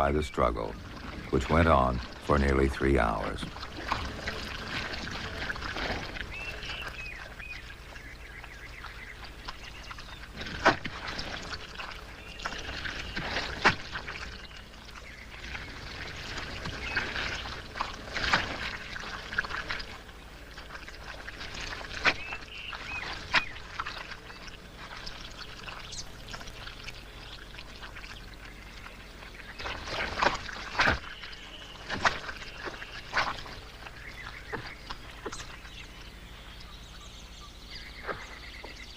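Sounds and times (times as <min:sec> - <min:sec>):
wet mud sucking and splashing: 0:00.0 - 0:35.7.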